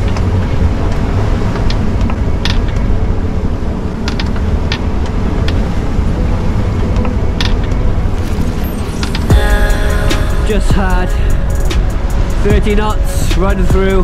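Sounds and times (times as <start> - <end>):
sea rushing past hull: 0.0 - 14.0.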